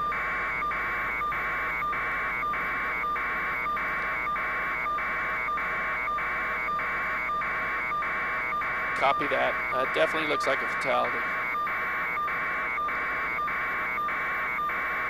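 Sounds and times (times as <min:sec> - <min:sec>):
pulsing electronic buzz: 0:00.0 - 0:15.0.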